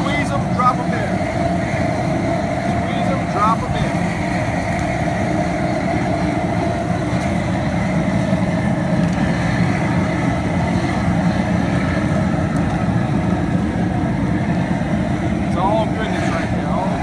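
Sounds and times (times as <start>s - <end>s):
propane burner roaring: 0.0s - 17.0s
water boiling in a pot: 0.0s - 17.0s.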